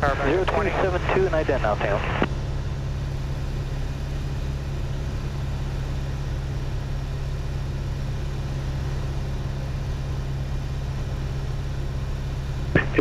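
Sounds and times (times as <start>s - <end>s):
airplane engine and propeller droning: 0.0s - 13.0s.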